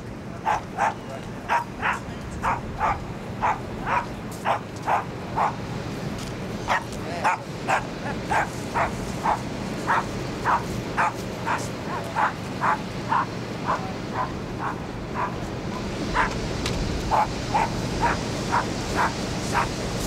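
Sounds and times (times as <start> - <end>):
small dog yipping: 0.5 - 5.6, 6.7 - 15.4, 17.1 - 19.7.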